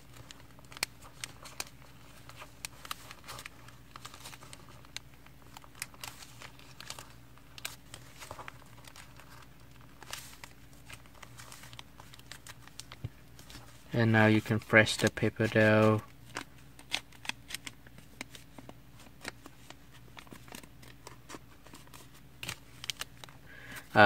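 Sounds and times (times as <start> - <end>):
paper crinkling and rustling: 0.0 - 24.0.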